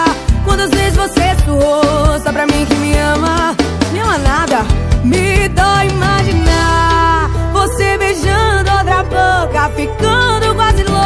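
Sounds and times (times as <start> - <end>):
recorded pop song: 0.0 - 11.0.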